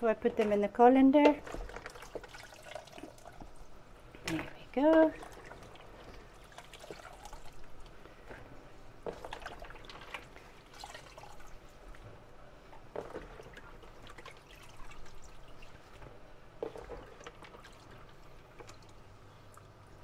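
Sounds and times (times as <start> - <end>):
water splashes and drips: 1.4 - 3.7, 4.3 - 8.0, 9.0 - 20.0.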